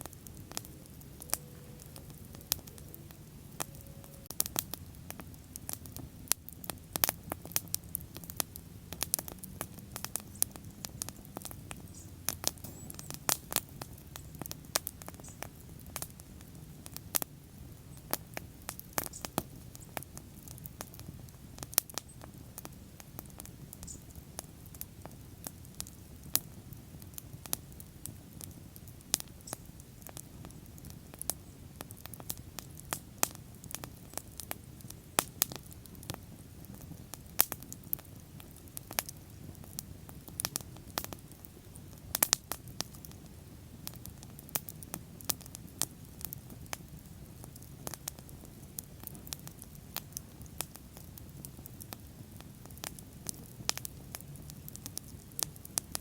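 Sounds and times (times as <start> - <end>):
bonfire crackling and popping: 0.0 - 56.0
low rush of flames: 0.0 - 56.0.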